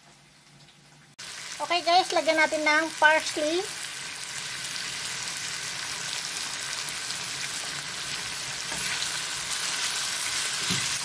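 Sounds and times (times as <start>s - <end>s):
meat and onions sizzling in a pan: 1.2s - 11.0s.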